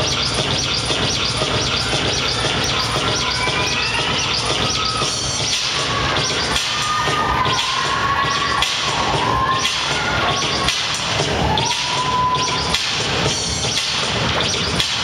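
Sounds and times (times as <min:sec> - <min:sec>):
dance music with heavy beat: 0:00.0 - 0:15.0.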